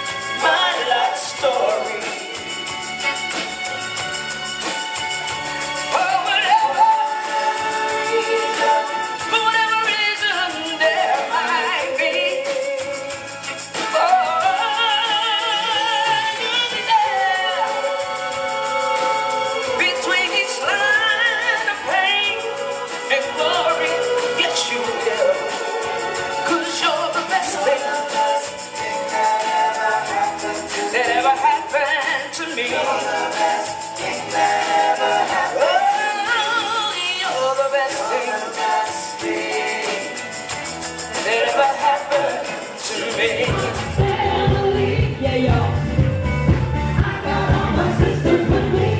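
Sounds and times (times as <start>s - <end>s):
person singing with vibrato: 0.0s - 3.6s, 5.8s - 46.1s
band accompaniment: 0.0s - 48.9s.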